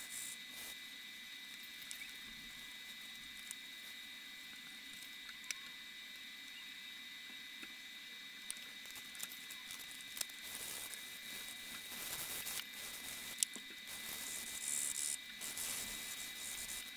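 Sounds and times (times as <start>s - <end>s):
faint high whine: 0.0s - 16.9s
steady hiss: 0.0s - 16.9s.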